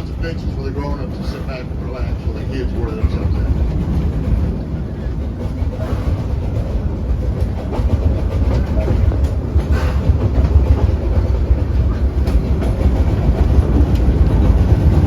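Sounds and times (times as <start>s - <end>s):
train rumble: 0.0s - 15.0s
wheels clicking on rails: 0.0s - 15.0s.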